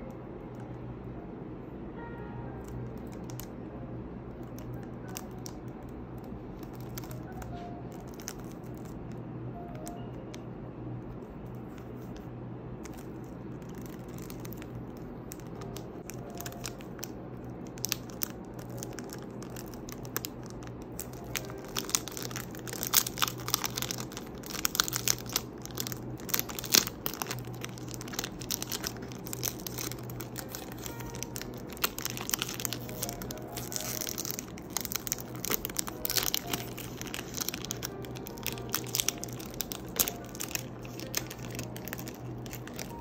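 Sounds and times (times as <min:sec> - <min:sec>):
steady low hum: 0:00.0 - 0:43.0
cellophane crinkling and tearing: 0:04.4 - 0:10.4, 0:12.8 - 0:43.0.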